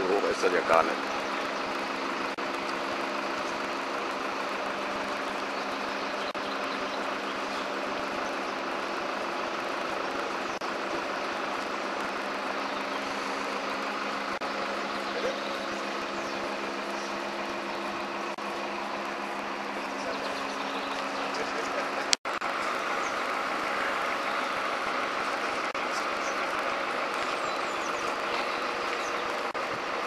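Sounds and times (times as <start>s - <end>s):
truck engine humming: 0.0s - 30.0s.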